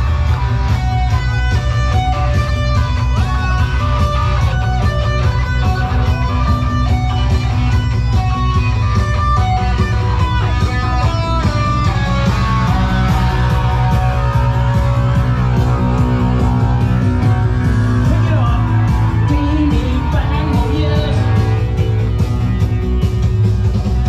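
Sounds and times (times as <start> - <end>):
dance music over speakers: 0.0 - 24.0.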